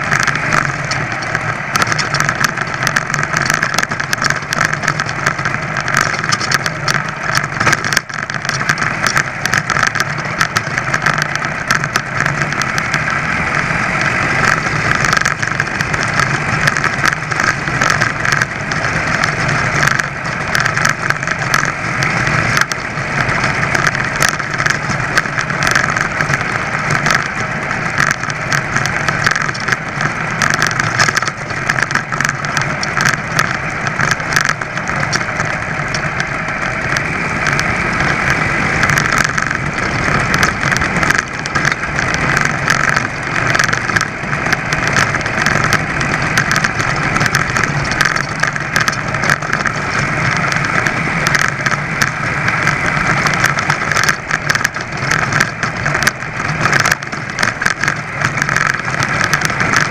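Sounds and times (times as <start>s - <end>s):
small clicks and rattles: 0.0s - 59.9s
two-stroke bicycle engine buzzing: 0.0s - 59.9s.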